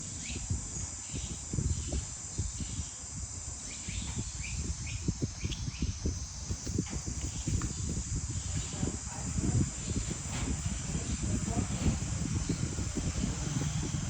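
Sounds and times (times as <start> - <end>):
crickets droning: 0.0 - 14.0.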